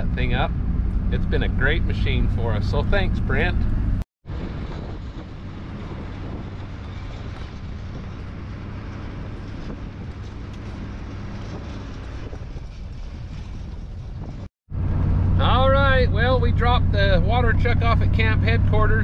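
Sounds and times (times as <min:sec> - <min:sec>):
pickup engine and tyres rumbling: 0:00.0 - 0:19.0
wind buffeting microphone: 0:00.0 - 0:19.0.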